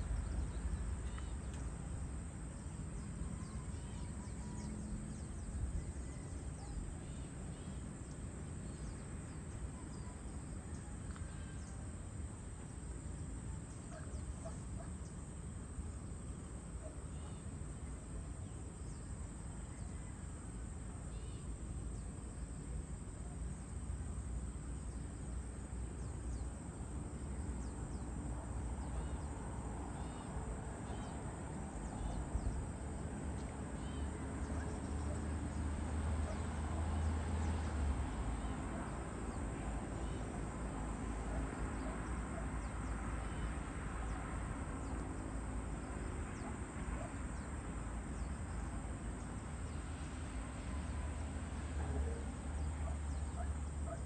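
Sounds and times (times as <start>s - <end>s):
low continuous rumble: 0.0s - 54.0s.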